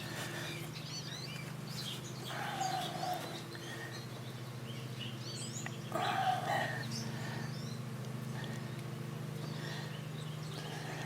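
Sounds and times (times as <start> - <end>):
birds chirping and calling: 0.0 - 11.0
steady low hum: 0.0 - 11.0.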